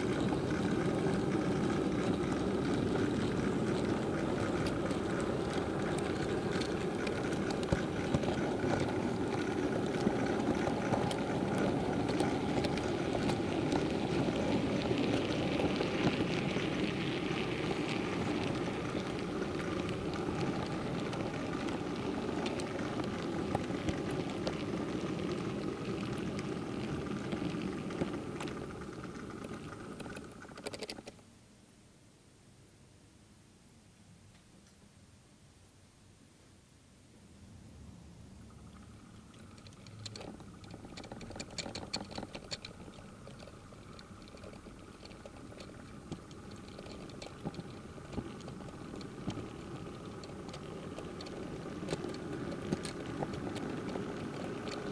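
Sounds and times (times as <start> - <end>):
model train rolling rumble: 0.0 - 31.2, 38.3 - 54.9
wheels clicking on rail joints: 0.0 - 31.2, 38.4 - 54.9.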